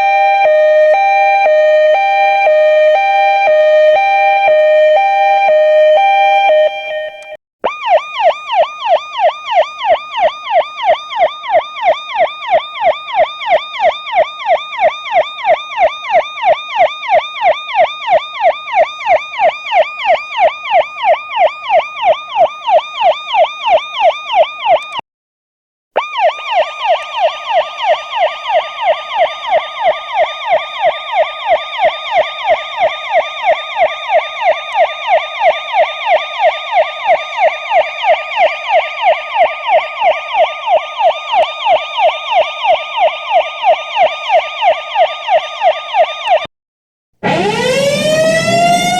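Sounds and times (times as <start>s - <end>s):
police siren yelping: 0.0s - 25.0s, 26.0s - 46.5s, 47.2s - 48.9s.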